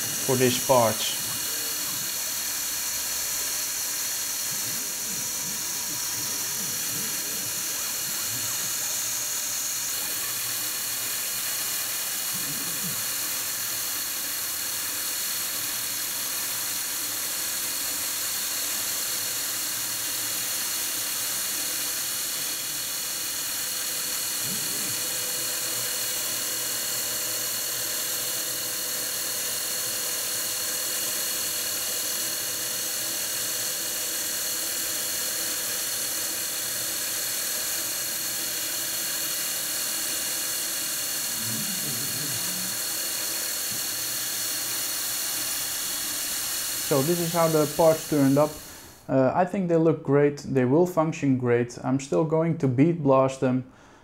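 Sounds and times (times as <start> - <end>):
cutter squealing: 0.0 - 14.6, 17.8 - 49.0
milling machine spindle whine: 0.0 - 49.1.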